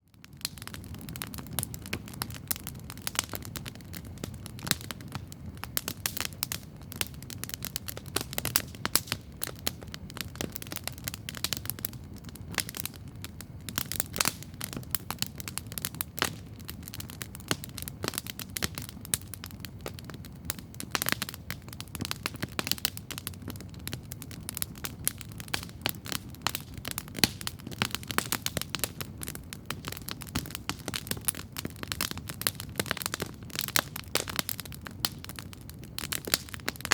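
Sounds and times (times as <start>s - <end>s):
campfire crackling and popping: 0.0s - 36.9s.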